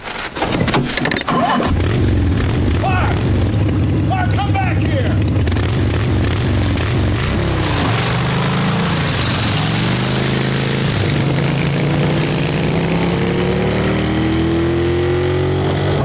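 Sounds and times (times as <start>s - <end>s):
motorcycle engine accelerating: 1.3s - 16.0s.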